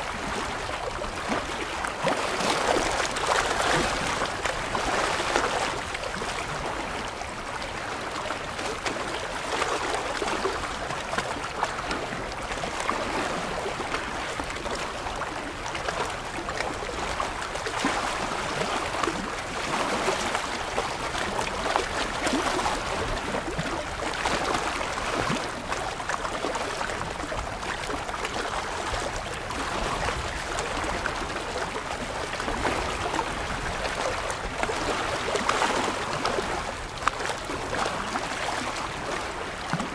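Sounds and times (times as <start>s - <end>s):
waves lapping against rocks: 0.1s - 39.9s.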